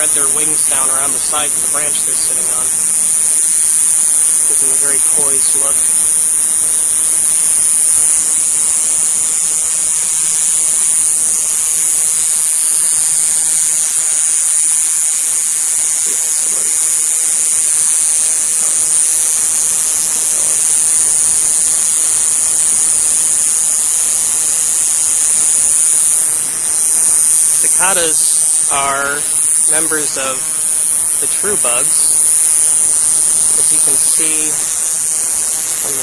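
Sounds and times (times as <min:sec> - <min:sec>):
cicada buzzing: 0:00.0 - 0:36.0.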